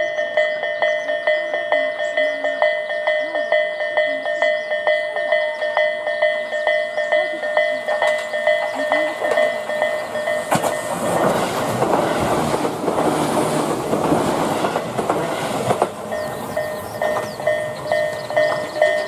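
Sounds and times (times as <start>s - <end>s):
train rumbling over steel bridge: 0.0s - 19.0s.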